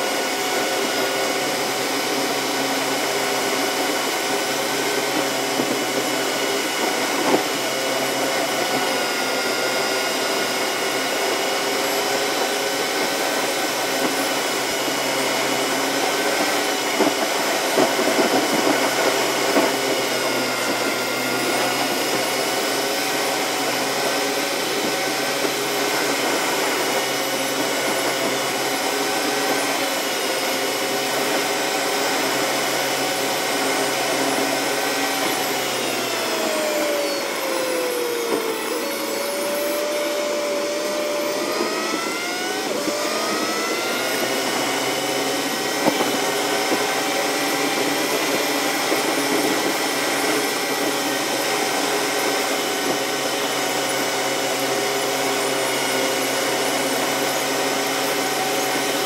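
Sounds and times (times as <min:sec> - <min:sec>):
sped-up car engine whine: 0:00.0 - 0:59.0.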